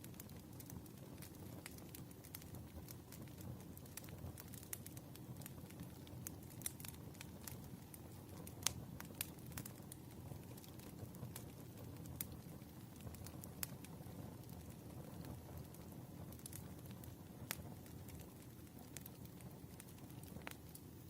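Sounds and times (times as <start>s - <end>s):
rush of flames: 0.0s - 21.0s
wood fire crackling and popping: 0.0s - 21.0s.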